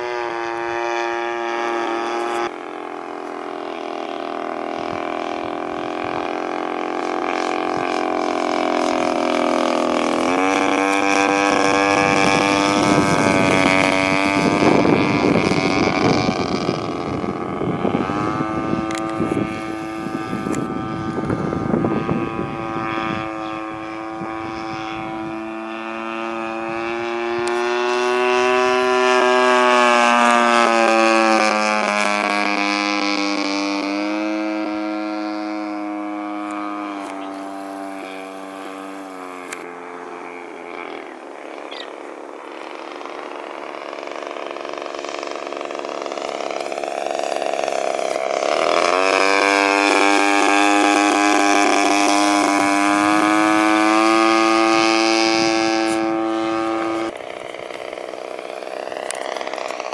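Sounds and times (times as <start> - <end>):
model airplane engine buzzing: 0.0 - 59.9.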